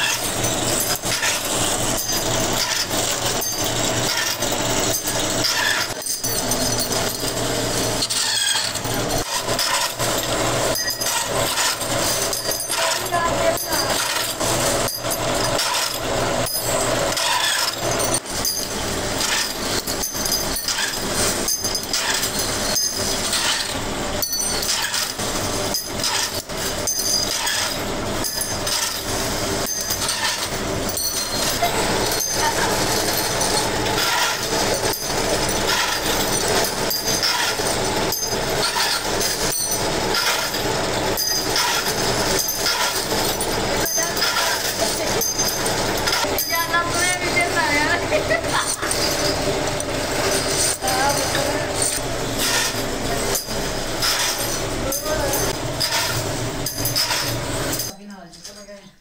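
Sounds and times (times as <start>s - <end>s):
workshop machinery running: 0.0s - 58.7s.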